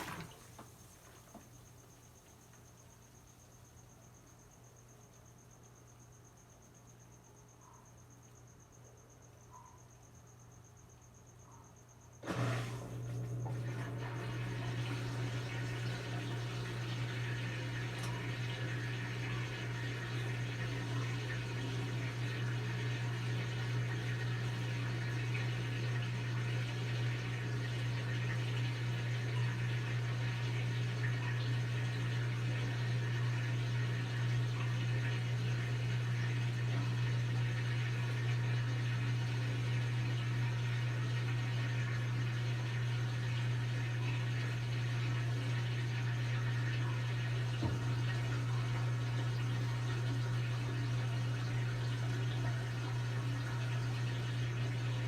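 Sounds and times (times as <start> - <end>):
running water filling: 0.0 - 1.4, 12.2 - 55.0.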